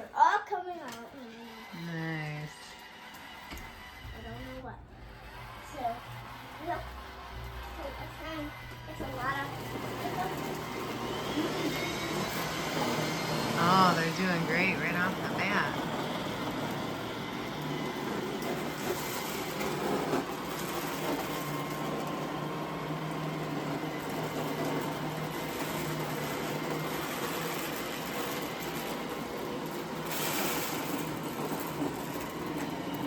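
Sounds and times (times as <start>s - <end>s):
robot vacuum motor whir: 0.0s - 33.0s.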